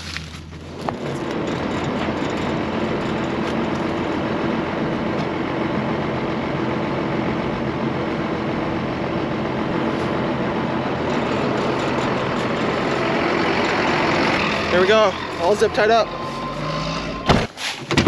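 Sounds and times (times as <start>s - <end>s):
farm machine engine idling: 0.0s - 17.5s.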